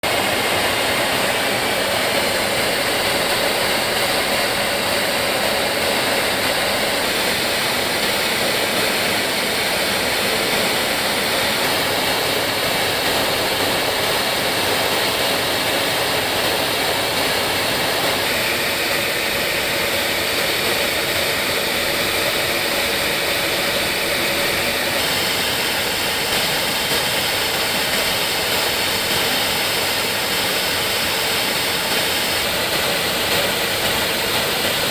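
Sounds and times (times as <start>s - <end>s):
jet engine rushing: 0.0s - 34.9s.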